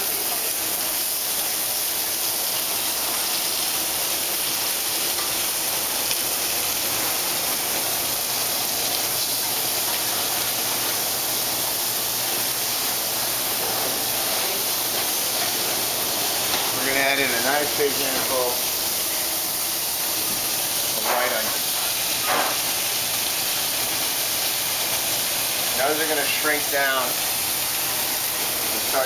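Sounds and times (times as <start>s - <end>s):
chicken sizzling in a frying pan: 0.0s - 29.0s.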